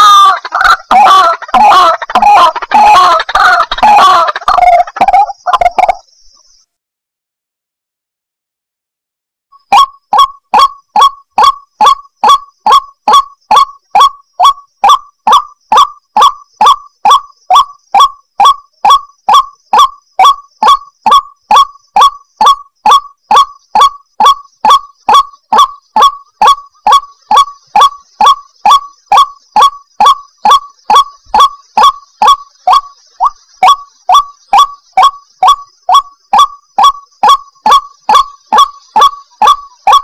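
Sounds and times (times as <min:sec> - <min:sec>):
waterhen calling harshly: 0:00.0 - 0:06.0, 0:09.7 - 0:40.0.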